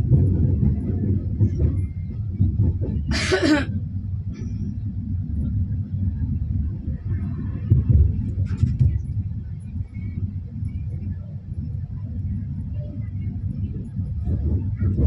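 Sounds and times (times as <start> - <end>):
train coach rumbling on track: 0.0 - 15.0.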